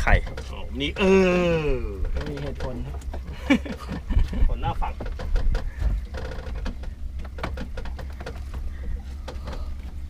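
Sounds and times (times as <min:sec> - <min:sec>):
sharp knocks and clicks: 0:00.0 - 0:00.7, 0:02.0 - 0:10.0
boat engine rumble: 0:00.0 - 0:10.0.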